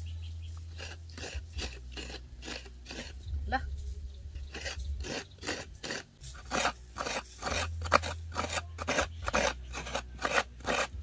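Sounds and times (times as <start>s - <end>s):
coconut grating rasping: 0.6s - 3.5s, 4.2s - 11.0s.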